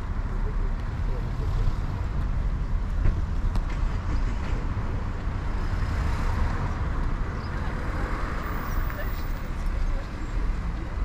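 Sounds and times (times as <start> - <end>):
steady low traffic rumble: 0.0 - 11.0
car passing on road: 1.5 - 10.8.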